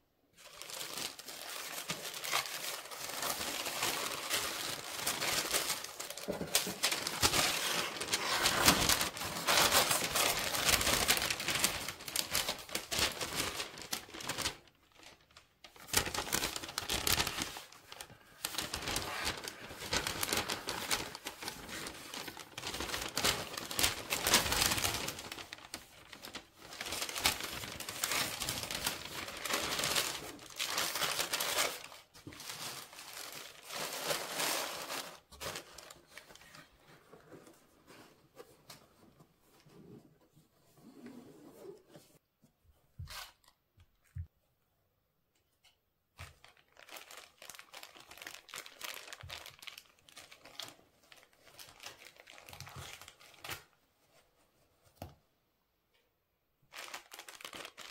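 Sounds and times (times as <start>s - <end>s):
packing paper crinkling: 0.4s - 38.0s, 46.2s - 53.8s, 56.7s - 57.9s.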